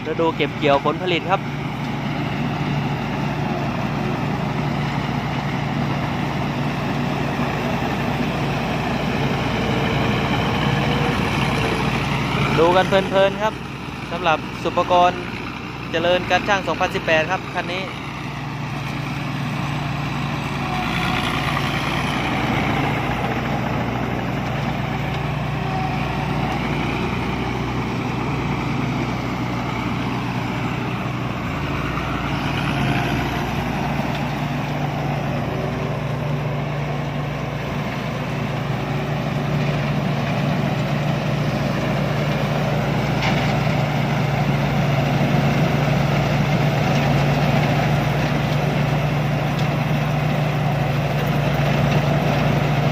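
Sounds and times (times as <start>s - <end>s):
combine harvester engine running: 0.0s - 52.9s
machinery rattling: 0.0s - 52.9s.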